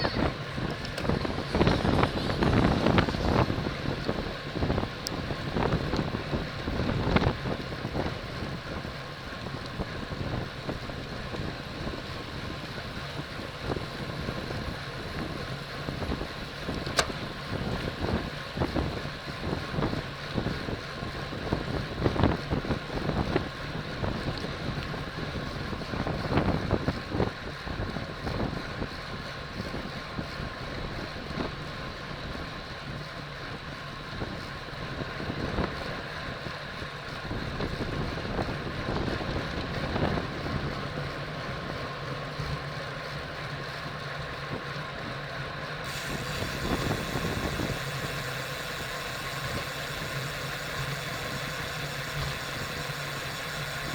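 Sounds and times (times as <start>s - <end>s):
wind buffeting microphone: 0.0s - 42.6s, 45.8s - 53.9s.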